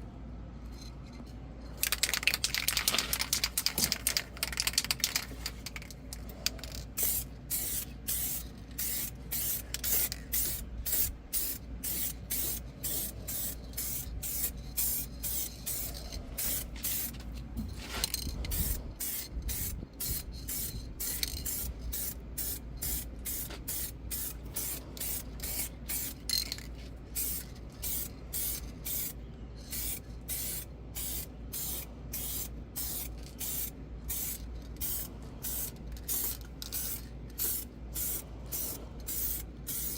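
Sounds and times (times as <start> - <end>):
spray paint hissing bursts: 1.8 - 17.2, 17.8 - 26.3, 27.1 - 39.9.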